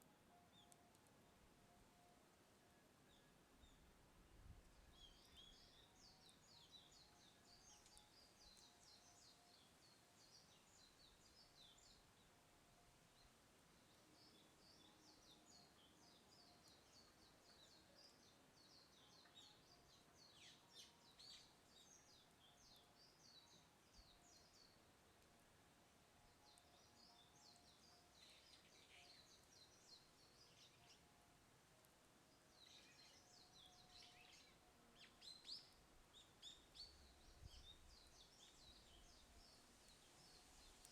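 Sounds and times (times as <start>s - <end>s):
bird chirping: 4.7s - 12.4s, 13.2s - 24.9s, 26.2s - 31.2s, 32.3s - 40.9s.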